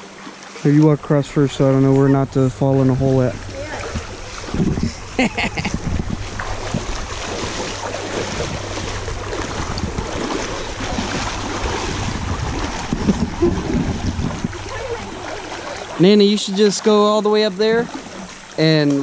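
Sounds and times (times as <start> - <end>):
child splashing and swimming: 0.0 - 19.0
creek water rushing and splashing: 0.0 - 19.0.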